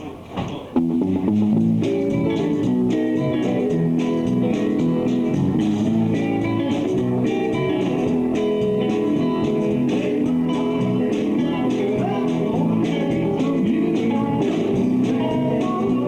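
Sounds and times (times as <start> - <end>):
blues-rock band playing live: 0.8 - 16.0.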